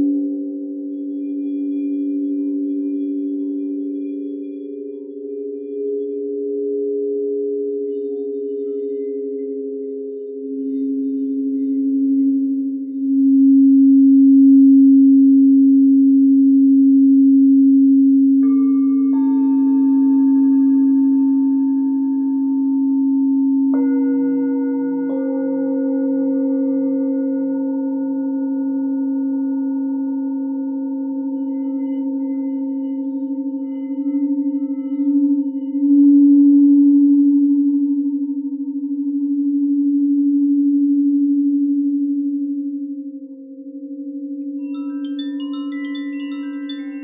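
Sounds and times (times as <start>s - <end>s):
singing bowl ringing: 0.0s - 15.6s, 18.3s - 47.0s.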